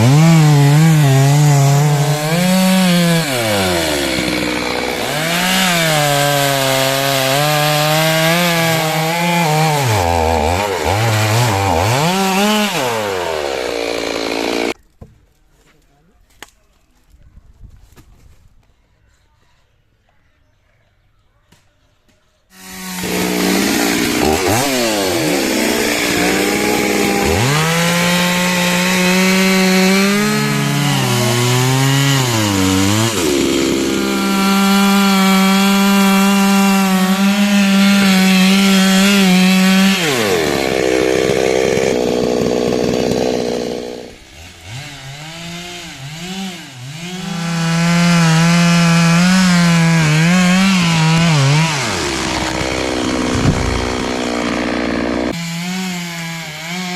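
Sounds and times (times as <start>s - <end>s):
chainsaw cutting wood: 0.0s - 14.8s, 22.5s - 56.9s.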